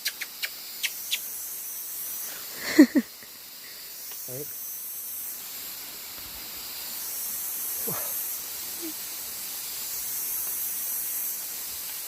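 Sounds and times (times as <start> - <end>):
high-pitched outdoor hiss: 0.0 - 12.0.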